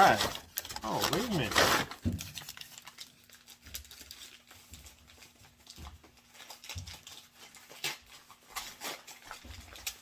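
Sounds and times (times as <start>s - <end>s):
faint packaging rustling: 0.0s - 10.0s.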